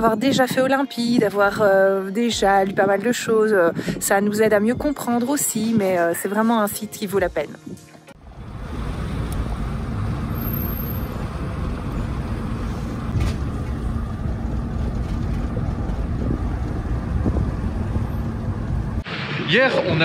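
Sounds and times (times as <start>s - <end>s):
engine and road rumble: 0.0s - 19.4s.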